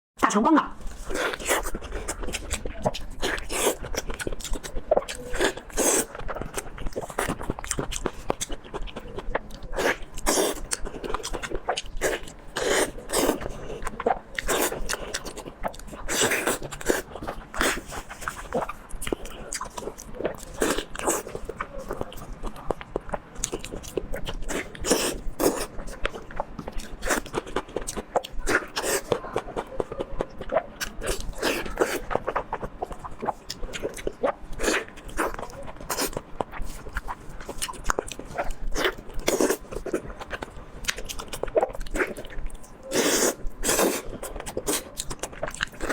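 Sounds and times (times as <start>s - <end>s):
chewing and crunching food: 0.3s - 45.9s.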